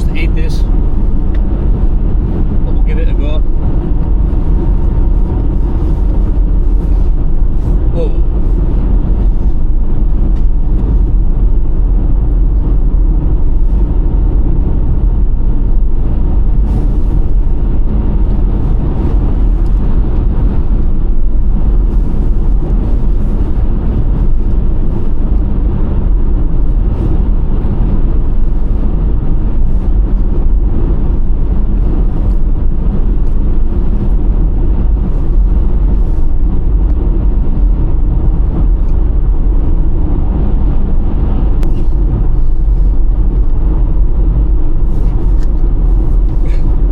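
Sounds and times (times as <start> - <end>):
engine and road rumble in cabin: 0.0 - 46.9.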